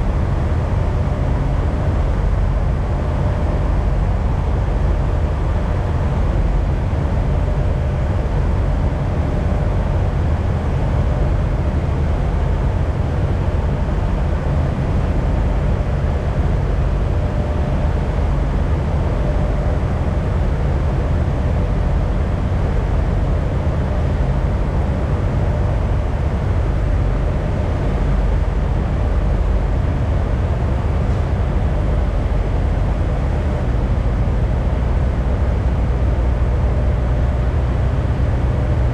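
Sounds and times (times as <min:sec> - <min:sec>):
faint steady whine: 0:00.0 - 0:38.9.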